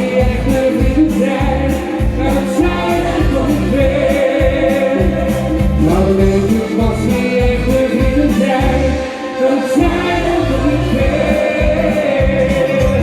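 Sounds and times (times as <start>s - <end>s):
person singing: 0.0s - 13.0s
pop backing music with beat: 0.0s - 13.0s.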